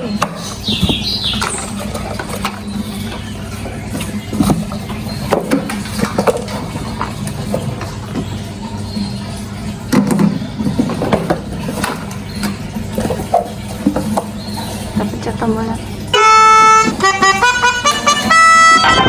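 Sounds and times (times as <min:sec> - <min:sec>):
toy vehicles clicking and knocking: 0:00.0 - 0:19.0.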